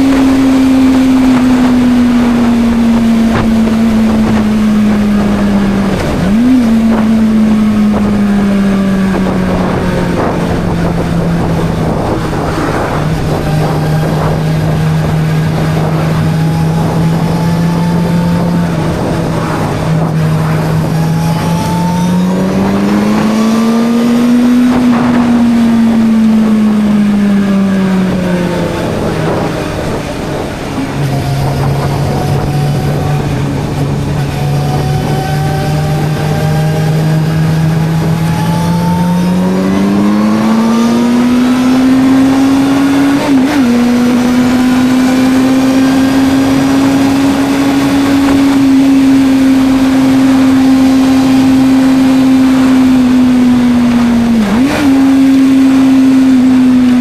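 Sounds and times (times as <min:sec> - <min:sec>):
motorcycle engine cruising: 0:00.0 - 0:57.0
wind rush: 0:00.0 - 0:57.0.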